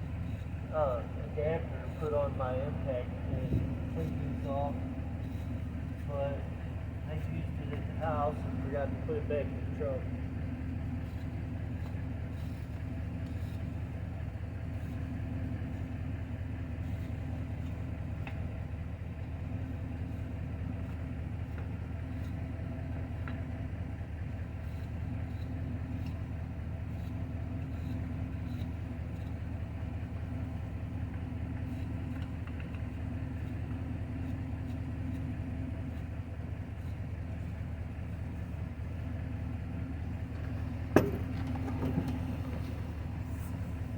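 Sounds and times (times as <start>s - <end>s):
truck engine idling: 0.0s - 43.9s.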